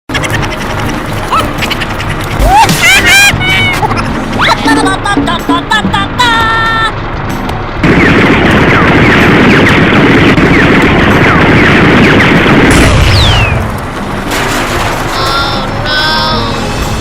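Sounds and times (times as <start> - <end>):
gunfire and explosions: 0.2 - 17.0.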